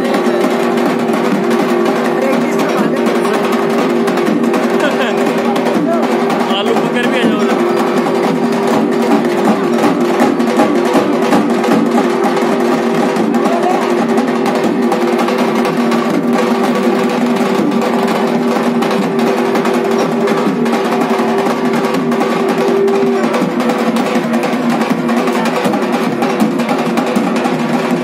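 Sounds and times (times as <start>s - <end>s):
rapid drumming: 0.0s - 28.0s.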